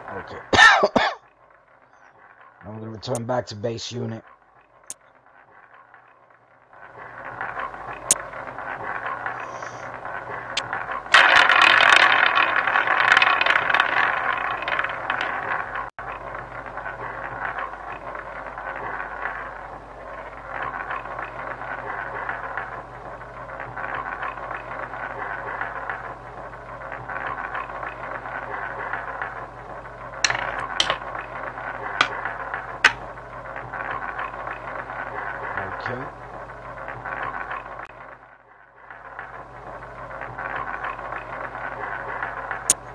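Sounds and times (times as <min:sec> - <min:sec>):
roulette ball rolling around wheel: 0:01.3 - 0:42.9.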